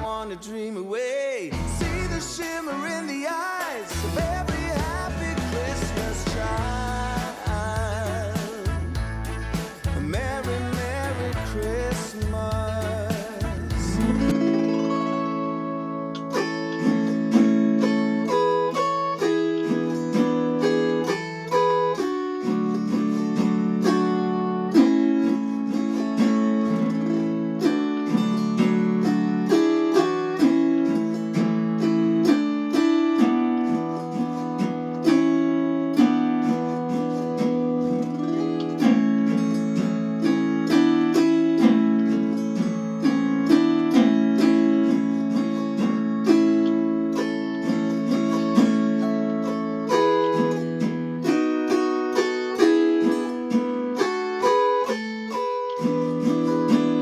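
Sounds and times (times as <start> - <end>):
zither playing a hymn tune: 1.0 - 57.0.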